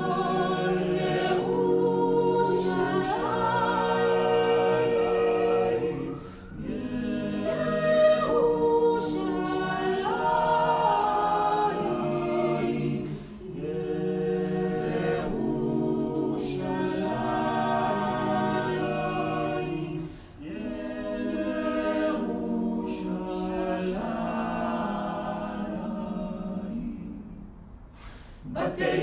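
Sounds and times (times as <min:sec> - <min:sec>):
choir singing a cappella: 0:00.0 - 0:29.0.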